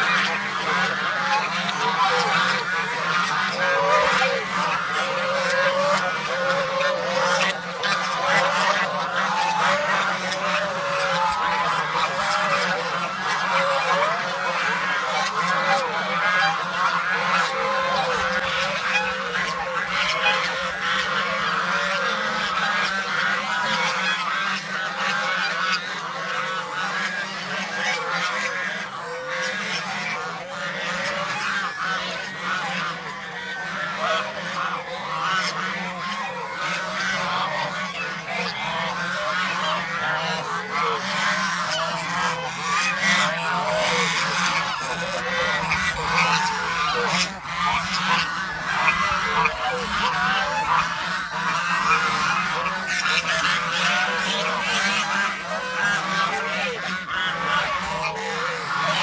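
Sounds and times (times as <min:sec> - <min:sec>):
geese honking: 0:00.0 - 0:59.0.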